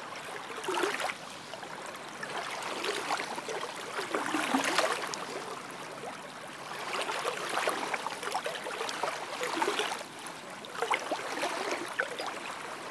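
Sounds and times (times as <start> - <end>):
small waves lapping on sand: 0.0 - 12.9.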